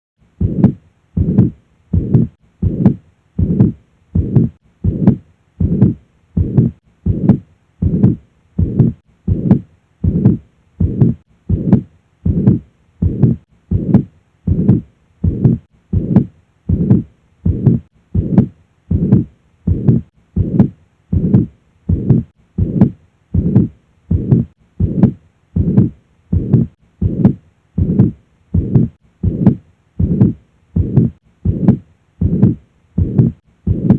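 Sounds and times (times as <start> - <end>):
heartbeat: 0.3 - 33.9
blowing heart murmur: 0.4 - 33.9.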